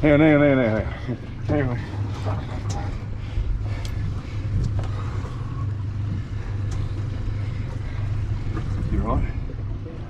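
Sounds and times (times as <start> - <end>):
outboard motors idling: 0.0 - 10.0.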